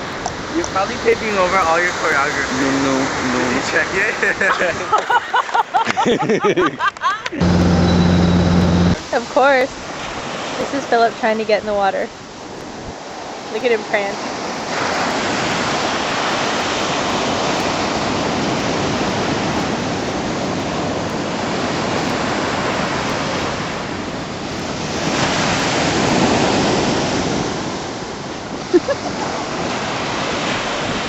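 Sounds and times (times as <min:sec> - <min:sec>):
ocean surf washing on shore: 0:00.0 - 0:31.0.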